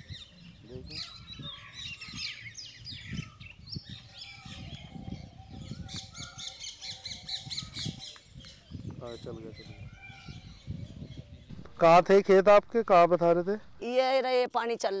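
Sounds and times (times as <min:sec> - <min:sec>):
birds chirping and calling: 0:00.0 - 0:13.8.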